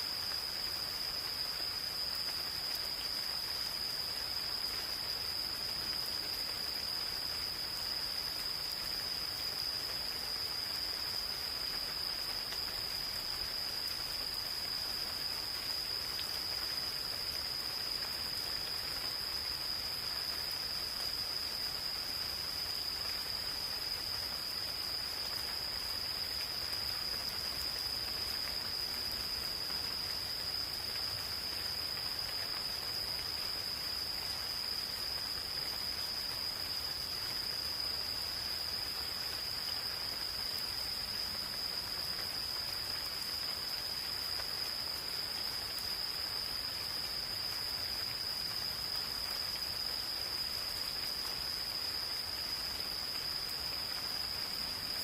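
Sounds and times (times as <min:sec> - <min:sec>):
gentle rain falling: 0:00.0 - 0:55.0
insects trilling: 0:00.0 - 0:55.0.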